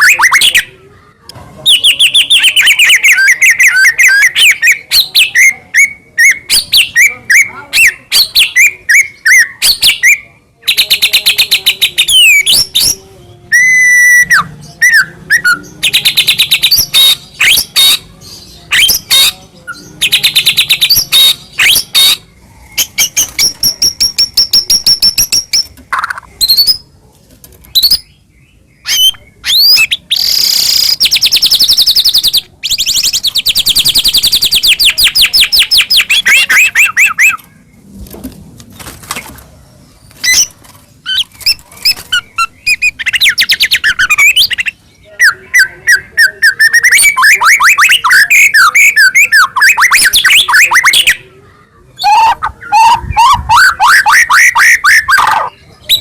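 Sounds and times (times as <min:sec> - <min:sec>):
bird singing trills and whistles: 0:01.7 - 0:26.8, 0:27.7 - 0:37.5, 0:40.1 - 0:51.2, 0:52.0 - 0:56.0.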